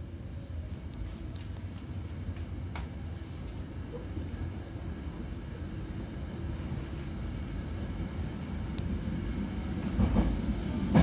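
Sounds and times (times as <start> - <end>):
train low rumble inside car: 0.0 - 11.0.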